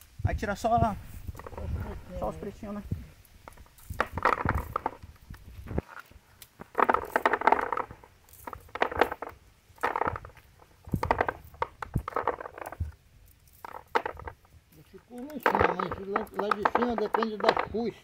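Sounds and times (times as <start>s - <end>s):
palm fruits rattling into bucket: 1.0s - 18.0s.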